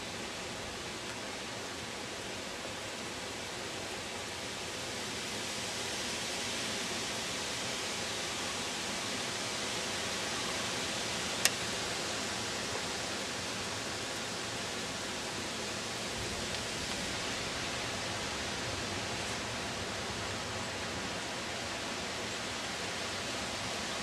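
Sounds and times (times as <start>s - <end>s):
snowstorm wind hissing: 0.0s - 24.0s.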